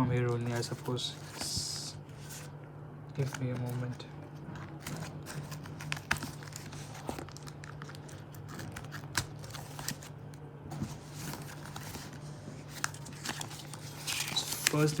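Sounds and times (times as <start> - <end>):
paper and packaging crinkling: 0.2 - 2.5, 3.2 - 15.0.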